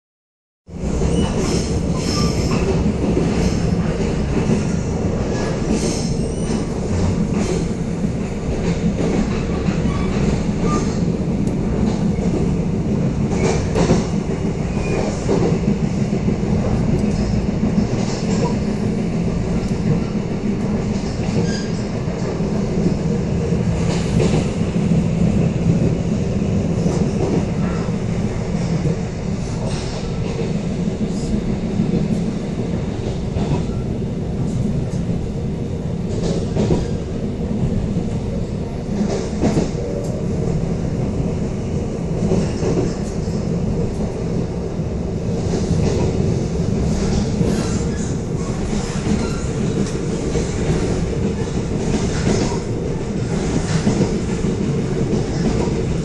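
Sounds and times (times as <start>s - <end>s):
train wheels rumbling on rails: 0.7s - 56.0s.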